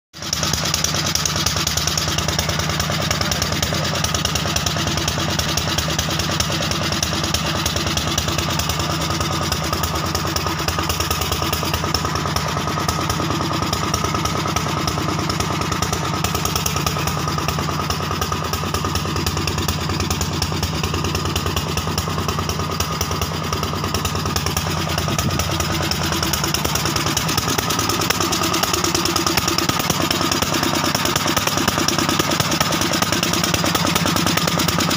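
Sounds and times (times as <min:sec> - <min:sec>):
generator engine running: 0:00.2 - 0:34.9.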